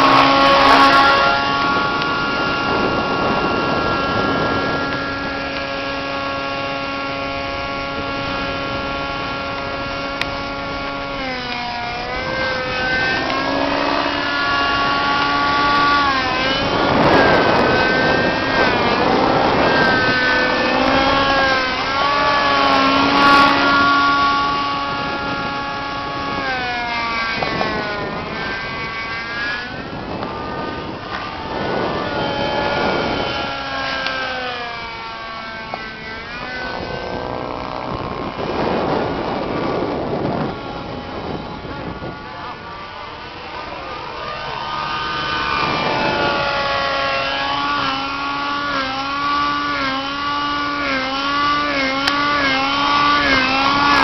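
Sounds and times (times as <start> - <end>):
model helicopter engine whine: 0.0 - 54.0
rushing blade noise: 0.0 - 54.0.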